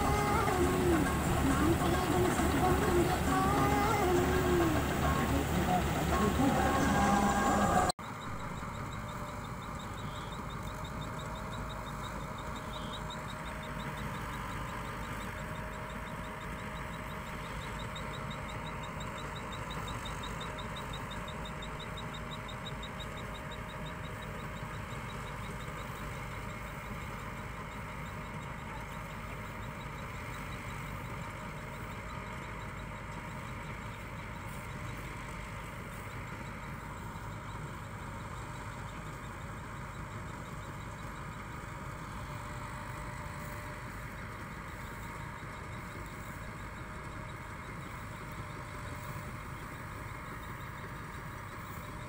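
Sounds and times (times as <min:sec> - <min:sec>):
distant combine harvester engine: 0:00.0 - 0:52.0.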